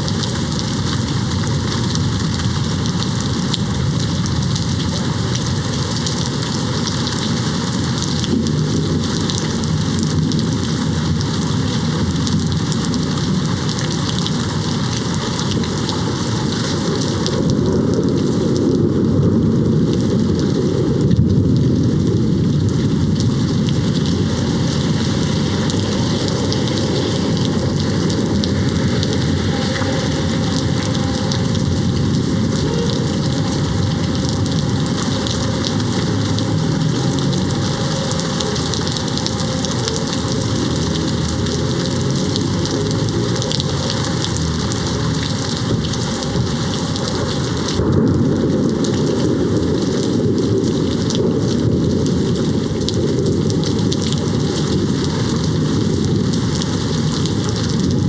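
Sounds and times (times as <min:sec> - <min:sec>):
low thunder rumbling: 0:00.0 - 0:58.0
rain on a window: 0:00.0 - 0:58.0.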